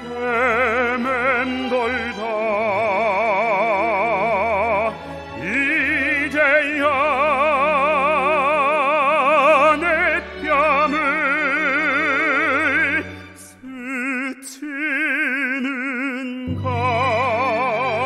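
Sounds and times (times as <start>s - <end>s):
orchestral music with vibrato melody: 0.0s - 18.0s.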